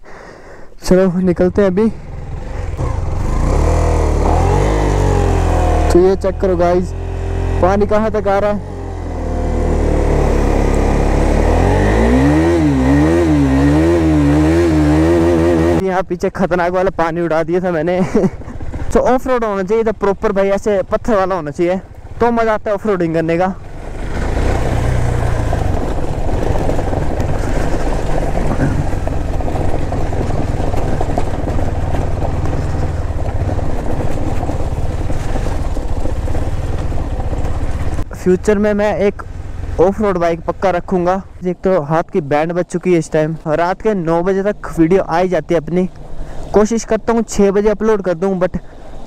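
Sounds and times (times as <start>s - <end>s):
motorcycle engine revving: 1.4s - 15.8s, 18.0s - 49.0s.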